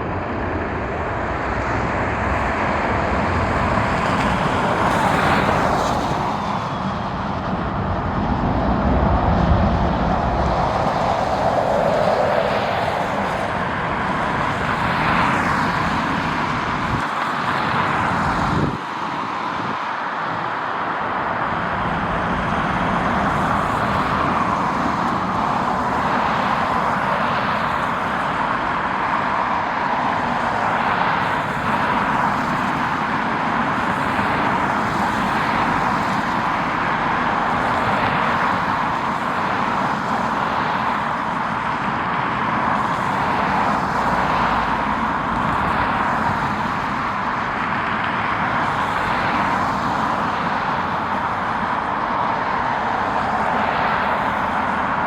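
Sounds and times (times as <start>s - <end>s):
jet airliner engines: 0.0s - 55.0s.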